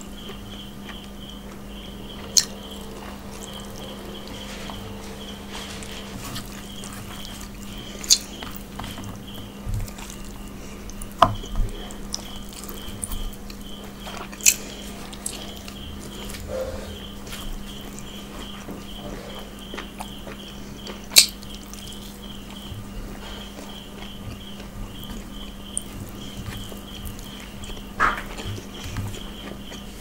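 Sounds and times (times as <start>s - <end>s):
steady low hum: 0.0s - 30.0s
person chewing with wet mouth sounds: 0.2s - 30.0s.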